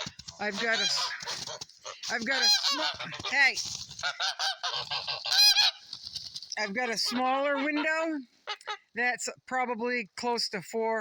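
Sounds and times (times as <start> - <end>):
geese honking: 0.0 - 9.1.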